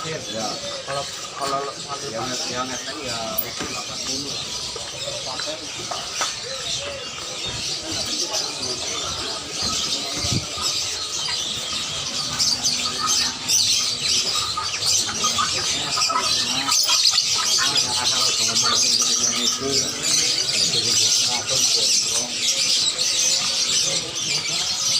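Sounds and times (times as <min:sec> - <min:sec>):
caged birds chirping and squawking: 0:00.0 - 0:24.9.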